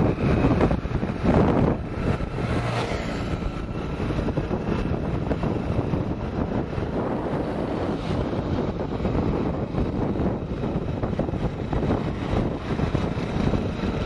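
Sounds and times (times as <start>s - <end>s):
motorbike rumble: 0.0s - 14.0s
wind rushing over microphone: 0.0s - 14.0s.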